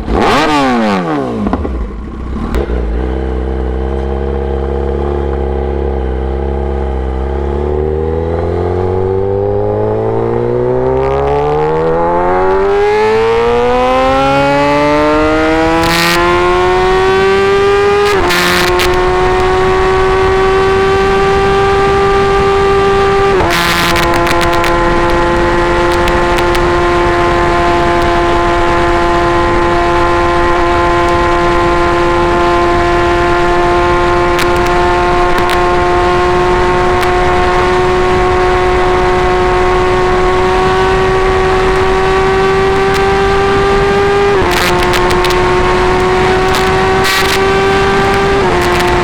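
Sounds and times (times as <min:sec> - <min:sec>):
motorcycle engine at high revs: 0:00.0 - 0:49.0.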